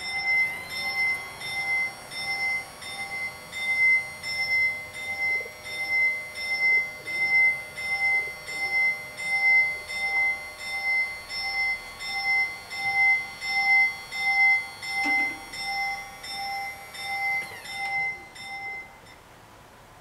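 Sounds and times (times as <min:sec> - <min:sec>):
level-crossing warning bells: 0:00.0 - 0:19.3.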